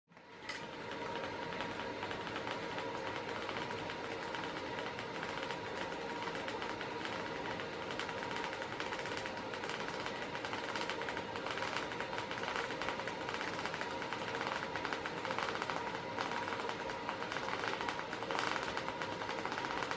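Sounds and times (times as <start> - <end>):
mechanism whirring: 0.1 - 19.9.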